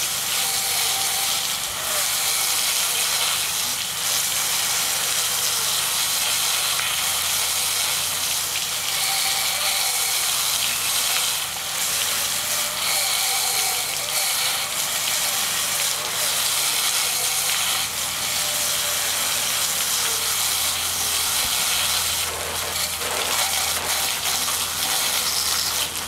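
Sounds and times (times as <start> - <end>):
water jets spraying on fan: 0.0 - 26.0.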